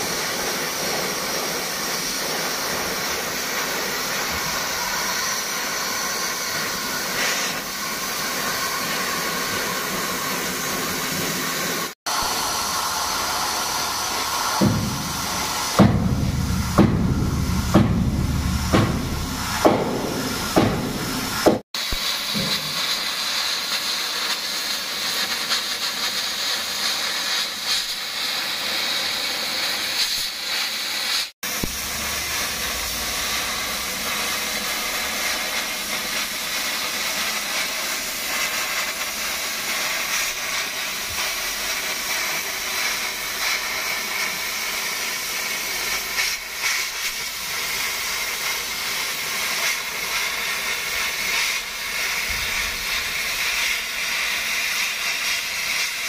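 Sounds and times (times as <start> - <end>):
cutting torch hissing: 0.0 - 56.0.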